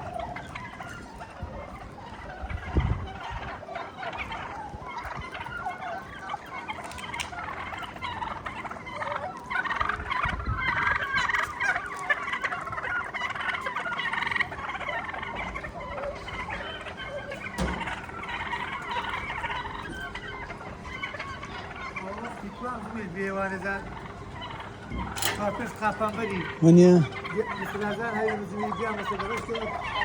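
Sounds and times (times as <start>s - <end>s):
chickens chattering: 0.0s - 30.0s.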